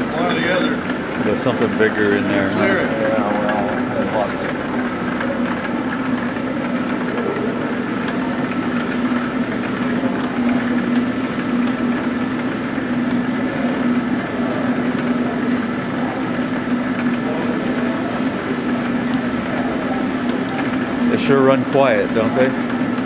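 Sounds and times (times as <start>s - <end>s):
lathe mechanical hum: 0.0s - 23.0s
ticking pulleys and belts: 0.0s - 23.0s.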